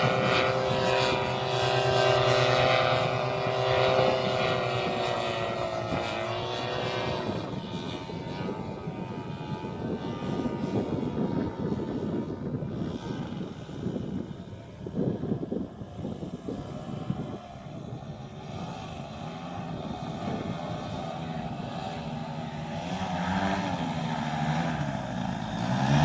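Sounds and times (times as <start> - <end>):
paramotor engine drone: 0.0 - 26.0
wind noise: 0.0 - 26.0.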